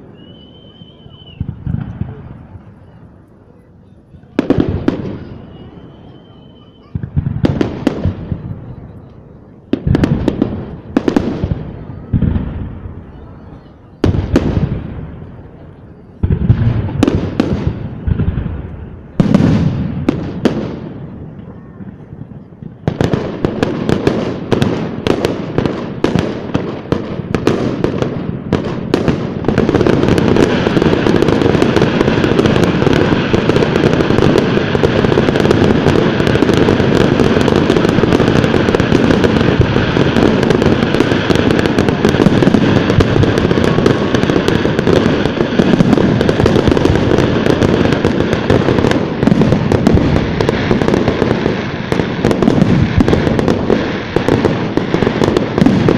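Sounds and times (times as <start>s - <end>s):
fireworks banging and crackling: 0.0s - 55.9s.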